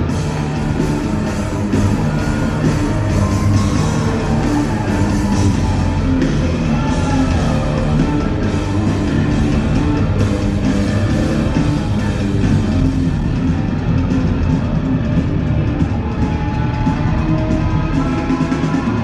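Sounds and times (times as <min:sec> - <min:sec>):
bass guitar: 0:00.0 - 0:19.0
drum kit: 0:00.0 - 0:19.0.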